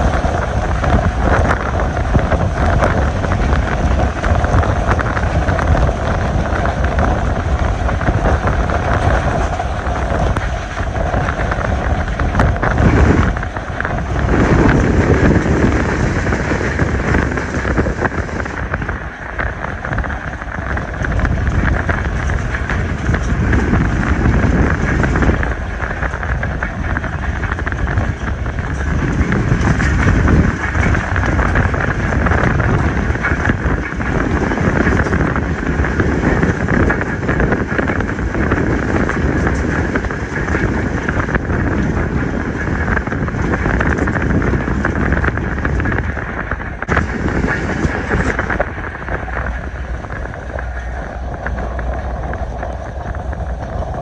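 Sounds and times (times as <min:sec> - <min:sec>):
train wheels rumbling on track: 0:00.0 - 0:54.0
wind buffeting microphone: 0:00.0 - 0:54.0.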